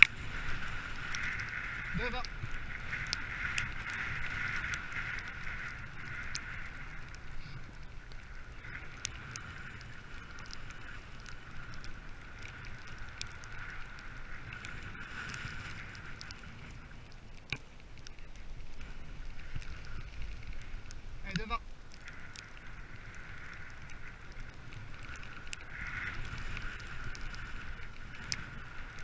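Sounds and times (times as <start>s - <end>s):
low wind rumble: 0.0s - 29.0s.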